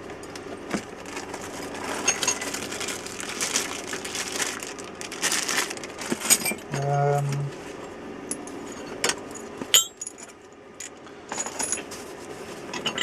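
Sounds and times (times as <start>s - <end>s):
hand tools rustling and clinking: 0.7s - 6.8s, 8.3s - 13.0s.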